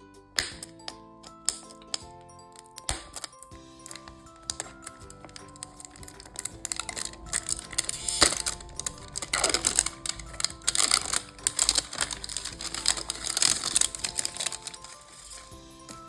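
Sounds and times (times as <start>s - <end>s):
light background music: 0.0s - 16.0s.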